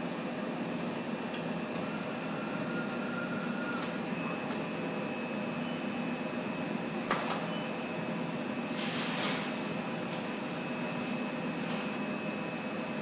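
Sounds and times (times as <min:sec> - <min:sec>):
screen printing machine hum: 0:00.0 - 0:13.0.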